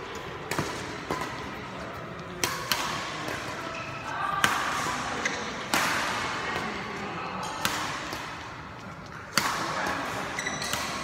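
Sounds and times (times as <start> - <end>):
racket hitting shuttlecock: 0.1 - 6.8, 7.4 - 11.0.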